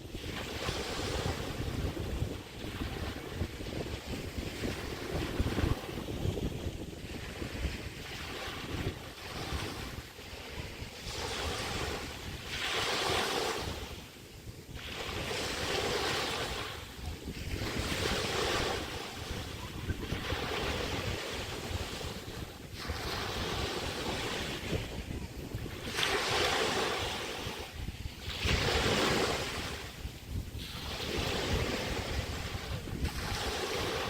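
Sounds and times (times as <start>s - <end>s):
waves breaking on beach: 0.0s - 34.0s
wind buffeting microphone: 0.0s - 34.0s.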